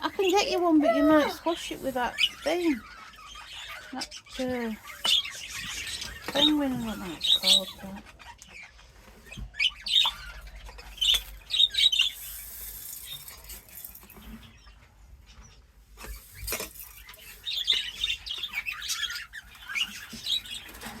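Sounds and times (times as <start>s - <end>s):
pet birds chirping: 0.0s - 21.0s.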